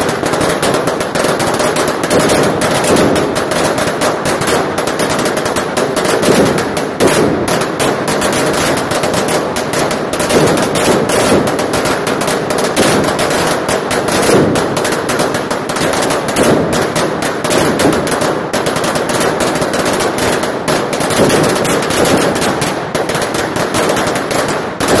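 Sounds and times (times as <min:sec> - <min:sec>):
firecrackers banging rapidly: 0:00.0 - 0:25.0.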